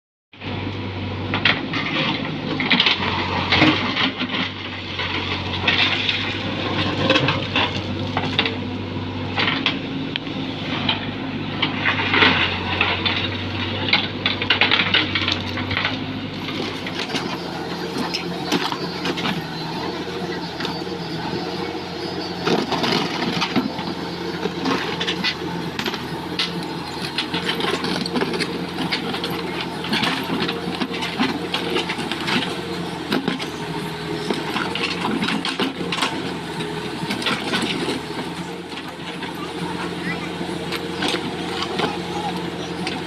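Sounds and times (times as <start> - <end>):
diesel engine running: 0.3 - 43.0.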